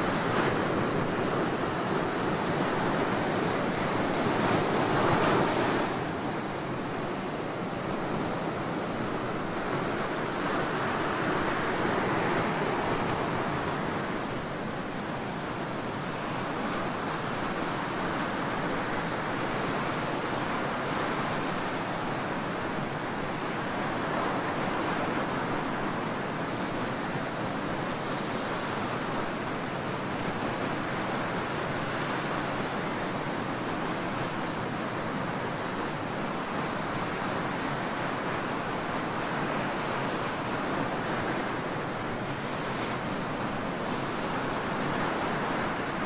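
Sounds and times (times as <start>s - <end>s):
ocean surf washing on beach: 0.0s - 46.0s.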